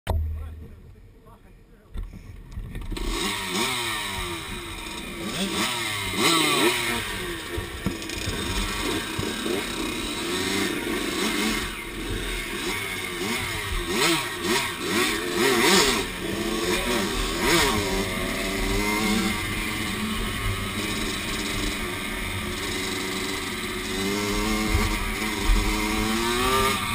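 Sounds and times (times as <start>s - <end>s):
dirt bike engine running: 2.0s - 26.9s.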